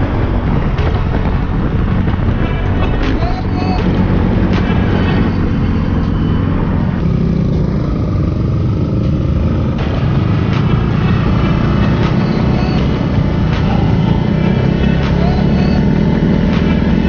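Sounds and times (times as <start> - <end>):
other motorbikes: 0.0 - 17.0
scooter engine and road rumble: 0.0 - 17.0.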